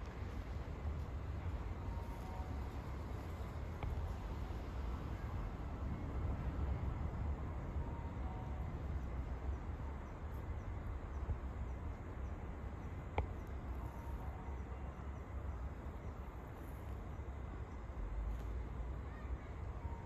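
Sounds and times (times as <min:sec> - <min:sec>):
steady low rumble: 0:00.0 - 0:19.7.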